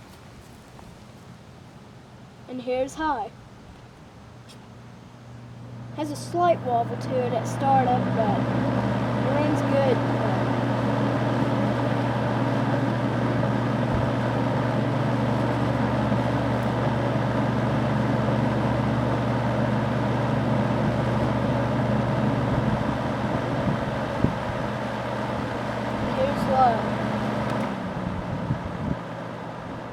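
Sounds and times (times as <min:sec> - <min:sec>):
box fan running: 0:00.0 - 0:29.9.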